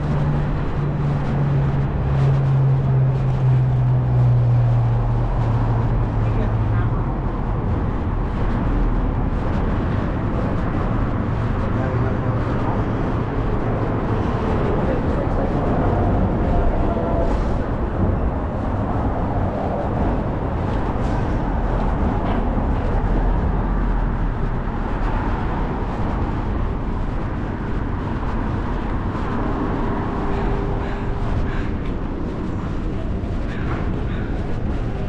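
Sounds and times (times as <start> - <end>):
street traffic passing: 0.0 - 35.0.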